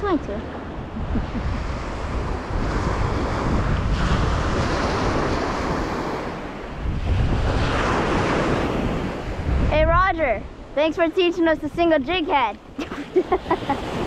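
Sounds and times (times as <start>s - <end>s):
surf washing ashore: 0.0s - 14.0s
wind buffeting microphone: 0.0s - 14.0s.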